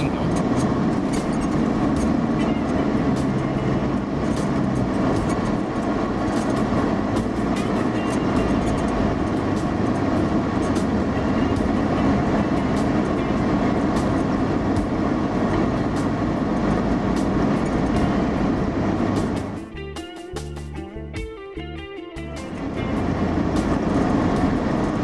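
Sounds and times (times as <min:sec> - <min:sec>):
vehicle engine driving on sand: 0:00.0 - 0:25.0.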